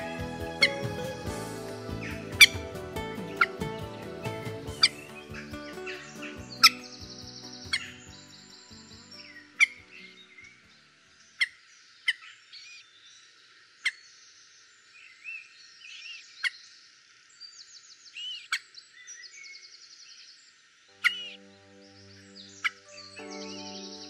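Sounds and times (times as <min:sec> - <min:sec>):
small birds calling and singing: 0:00.0 - 0:24.0.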